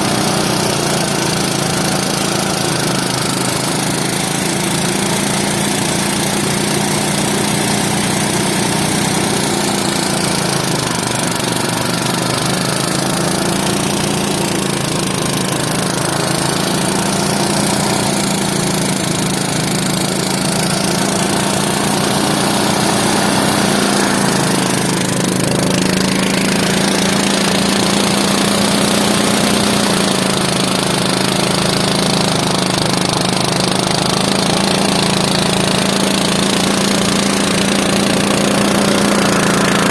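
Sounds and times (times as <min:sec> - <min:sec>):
dense mechanical clatter: 0:00.0 - 0:39.9
farm machine engine hum: 0:00.0 - 0:39.9.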